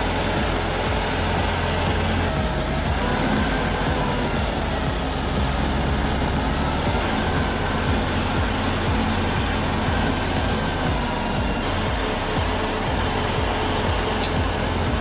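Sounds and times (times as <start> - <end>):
stump grinder engine grinding: 0.0 - 15.0.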